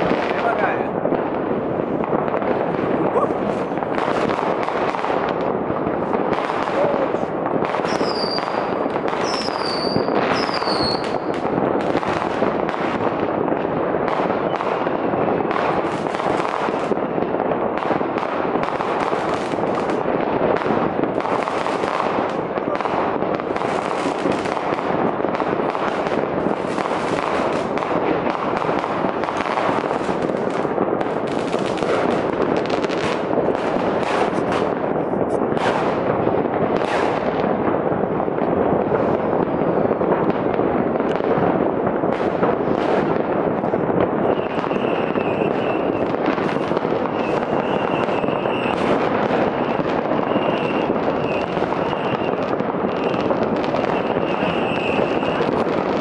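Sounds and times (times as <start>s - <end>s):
sharp firecracker cracks: 0.0s - 37.6s, 40.0s - 56.0s
distant fireworks bangs and crackles: 0.0s - 56.0s.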